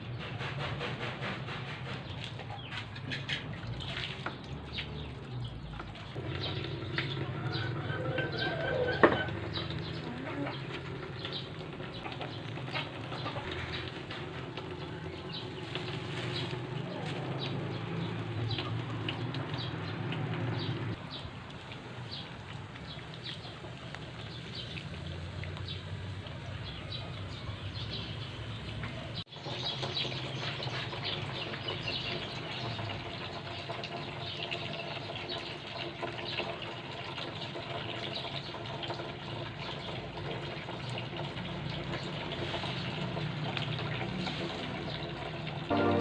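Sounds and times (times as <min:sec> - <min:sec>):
eggplants sizzling over charcoal: 0:00.1 - 0:46.0.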